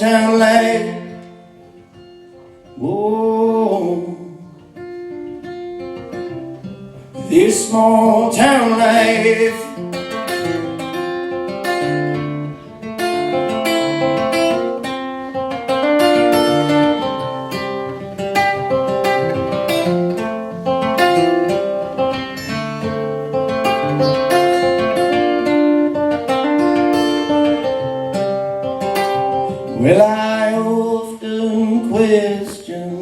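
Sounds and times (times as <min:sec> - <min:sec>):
acoustic guitar picking and strumming: 0:00.0 - 0:33.0.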